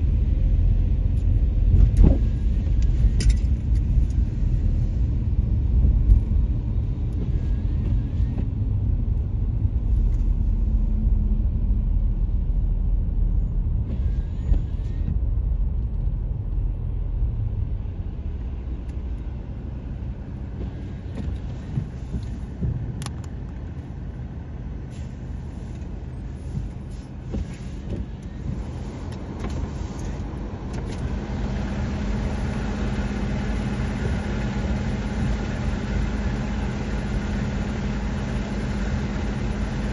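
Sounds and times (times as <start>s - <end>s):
car engine and tyres rumbling: 0.0s - 39.9s
engine hum: 0.0s - 39.9s.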